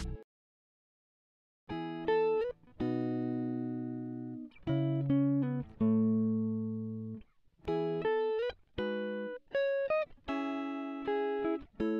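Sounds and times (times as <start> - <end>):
plucked guitar notes: 1.7 - 11.9.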